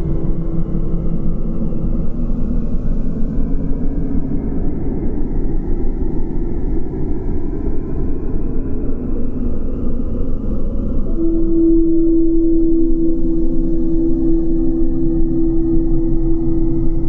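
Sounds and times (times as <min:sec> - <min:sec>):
deep sweeping rumble: 0:00.0 - 0:17.0.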